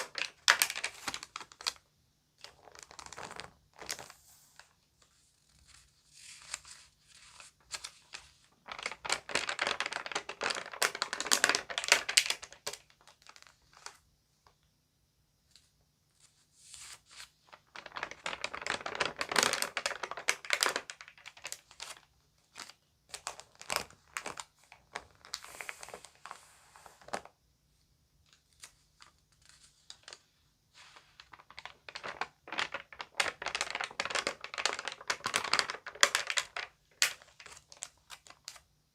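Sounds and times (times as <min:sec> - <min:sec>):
magazine pages crinkling: 0:00.0 - 0:04.2, 0:05.0 - 0:14.0, 0:16.7 - 0:27.3, 0:28.3 - 0:38.7.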